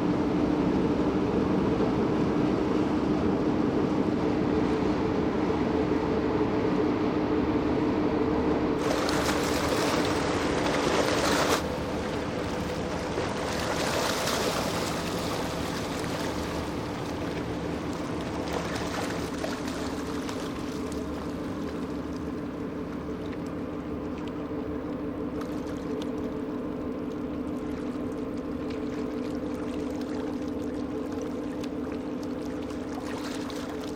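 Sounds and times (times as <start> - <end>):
ship engine hum: 0.0 - 33.9
water rushing along hull: 0.0 - 33.9.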